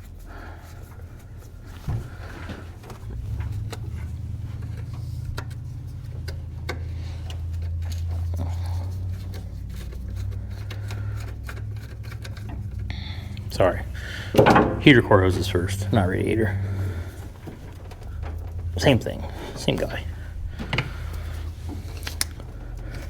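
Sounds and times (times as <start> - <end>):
light clicks and knocks: 0.0 - 23.0
steady low hum: 0.0 - 23.0.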